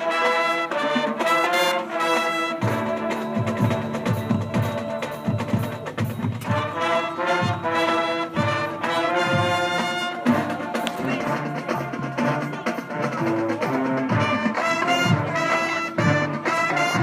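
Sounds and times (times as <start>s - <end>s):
brass held chords: 0.0s - 17.0s
marching band percussion: 0.0s - 17.0s.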